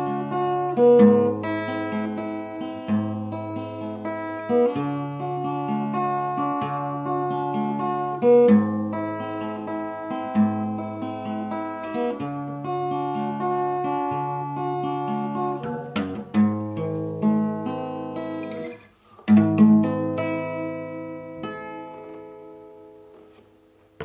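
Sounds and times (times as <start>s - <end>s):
acoustic guitar chords: 0.0s - 23.4s.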